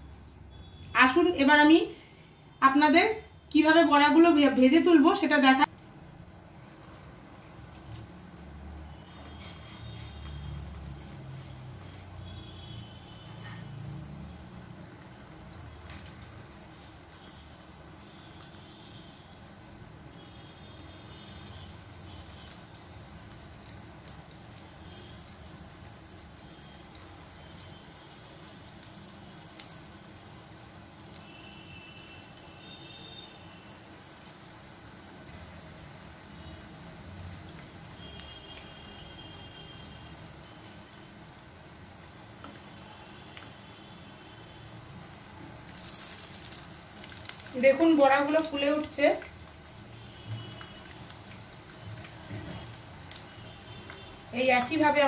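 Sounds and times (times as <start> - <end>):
batter frying in hot oil: 3.6 - 55.0.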